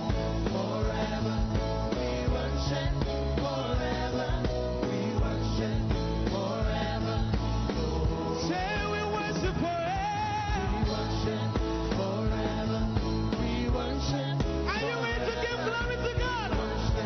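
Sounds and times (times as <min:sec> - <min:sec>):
band accompaniment with bass: 0:00.0 - 0:17.0.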